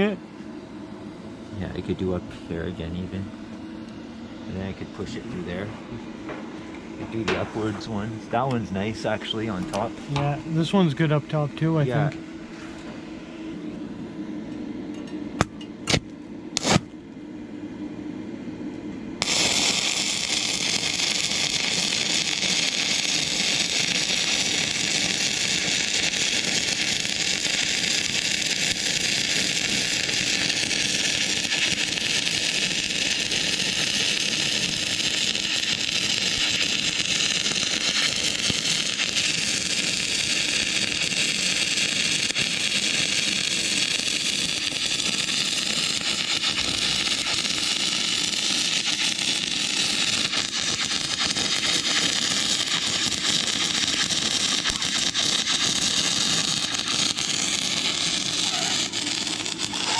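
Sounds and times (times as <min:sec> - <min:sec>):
welding arc hissing: 0:04.5 - 0:11.9, 0:16.6 - 0:16.9, 0:19.2 - 0:59.9.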